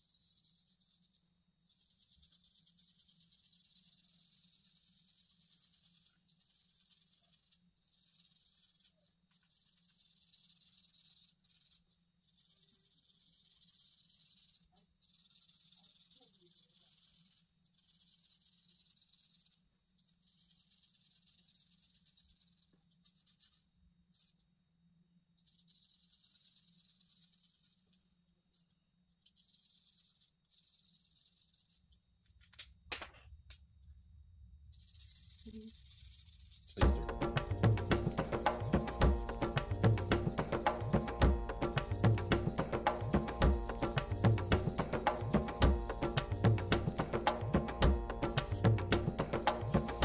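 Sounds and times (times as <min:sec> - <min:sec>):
marker scratching on paper: 0:00.0 - 0:24.5, 0:25.4 - 0:31.9, 0:34.8 - 0:50.0.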